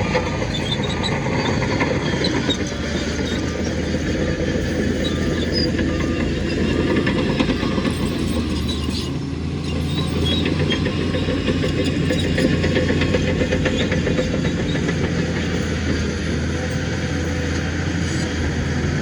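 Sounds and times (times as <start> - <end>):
bulldozer diesel engine running: 0.0 - 19.0
crawler tracks clanking: 0.0 - 19.0.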